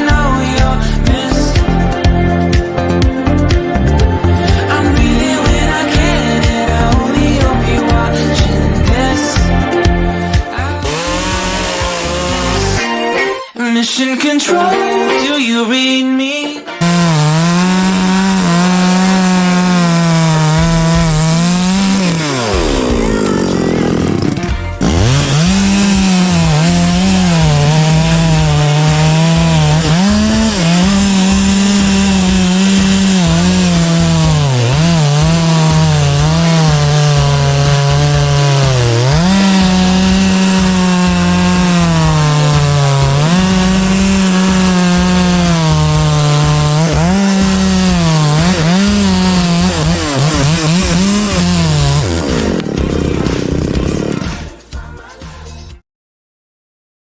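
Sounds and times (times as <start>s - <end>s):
chainsaw cutting wood: 0.0s - 12.9s, 16.8s - 54.6s.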